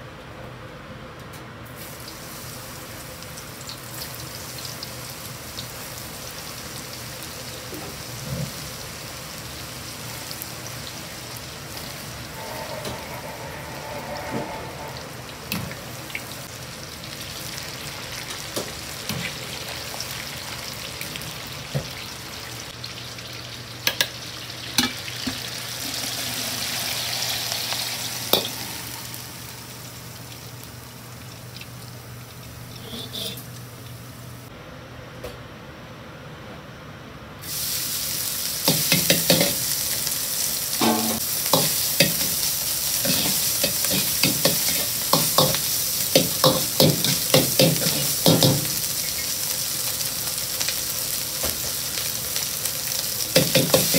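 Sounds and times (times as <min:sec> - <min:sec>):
vegetables deep-frying in oil: 0:01.7 - 0:14.1, 0:15.5 - 0:34.5, 0:37.4 - 0:53.9.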